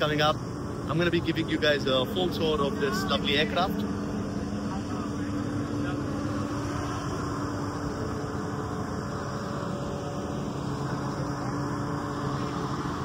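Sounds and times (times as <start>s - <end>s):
constant low tone: 0.0s - 13.0s
equipment mechanical hum: 0.0s - 13.0s.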